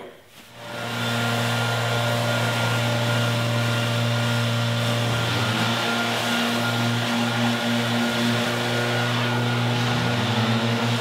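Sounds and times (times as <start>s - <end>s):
leaf blower running: 0.5s - 11.0s.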